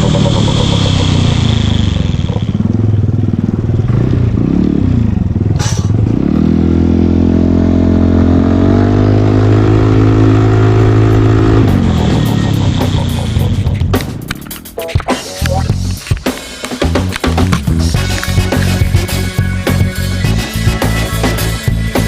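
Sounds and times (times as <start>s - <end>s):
scooter engine revving: 0.0s - 22.0s.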